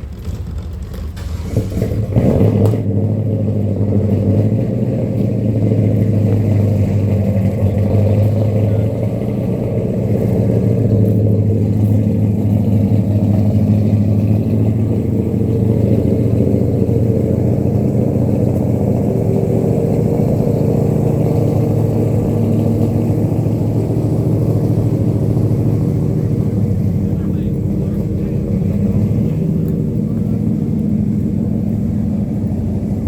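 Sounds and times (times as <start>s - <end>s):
car engine running at low revs: 0.0s - 33.0s.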